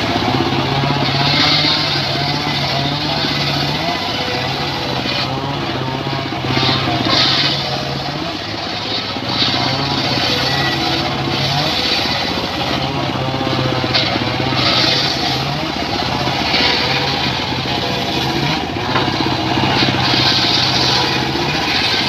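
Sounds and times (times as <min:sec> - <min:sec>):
circular saw motor running: 0:00.0 - 0:22.0
saw blade cutting wood: 0:00.0 - 0:22.0.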